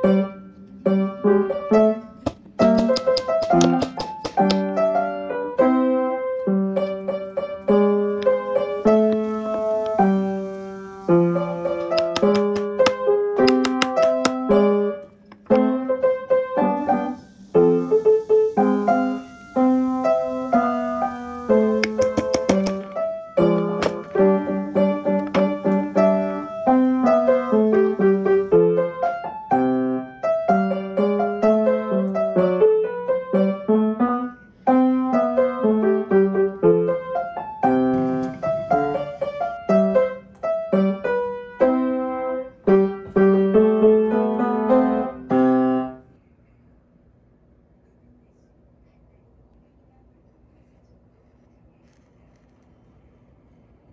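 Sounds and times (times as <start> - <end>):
gentle solo piano tune: 0.0 - 46.1.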